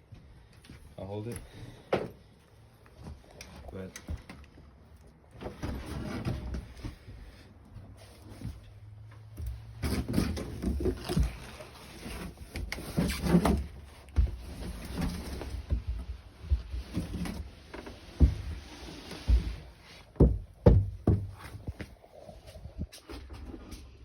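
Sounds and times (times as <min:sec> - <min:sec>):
scraping and rustling of handling: 0:02.8 - 0:24.0.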